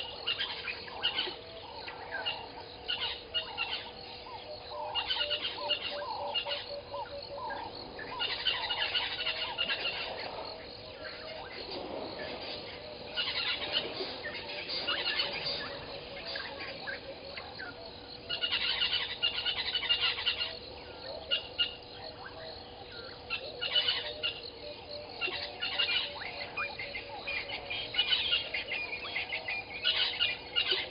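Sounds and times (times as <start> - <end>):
birds chirping: 0.0 - 30.9
faint steady hum: 0.0 - 30.9.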